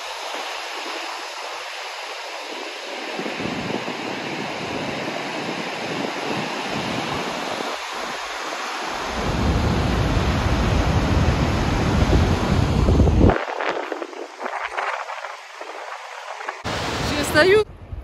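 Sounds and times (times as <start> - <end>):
waterfall rushing: 0.0 - 17.6
wind buffeting microphone: 0.0 - 18.0.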